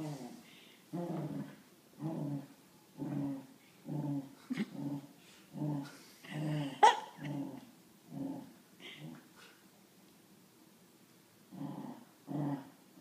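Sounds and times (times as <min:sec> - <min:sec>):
dog growling: 0:00.0 - 0:09.3, 0:11.5 - 0:12.8.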